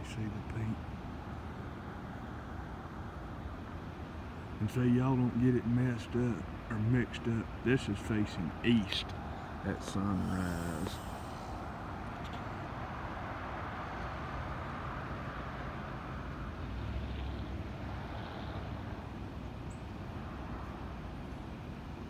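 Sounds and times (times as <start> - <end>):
distant vehicles rumbling: 0.0 - 22.0.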